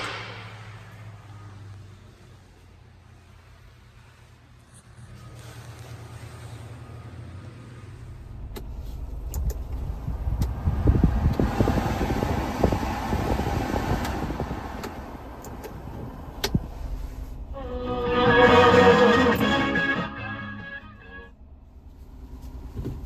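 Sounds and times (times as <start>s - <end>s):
truck engine rumble: 0.0s - 23.0s.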